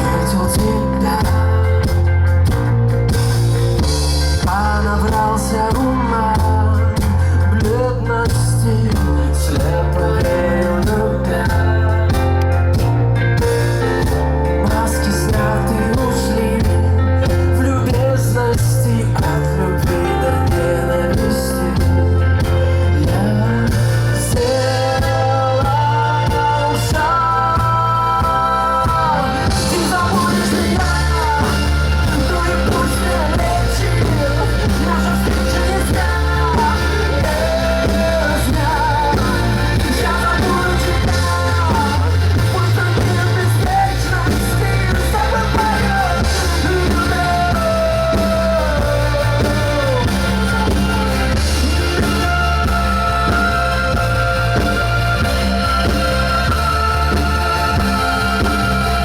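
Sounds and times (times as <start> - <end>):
person singing: 0.0 - 2.6, 3.8 - 59.0
steady bass line: 0.0 - 59.0.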